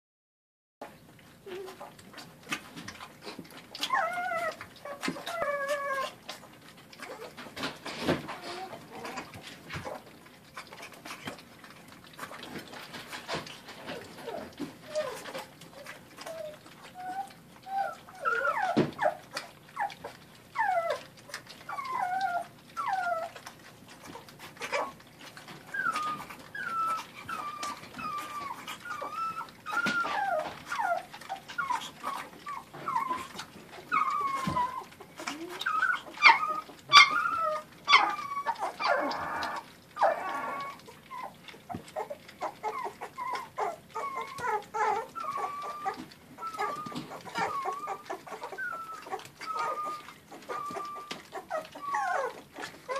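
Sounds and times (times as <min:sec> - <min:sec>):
puppies whining and whimpering: 0:00.9 - 0:52.9
puppy yelp: 0:03.0 - 0:11.4, 0:12.2 - 0:52.9.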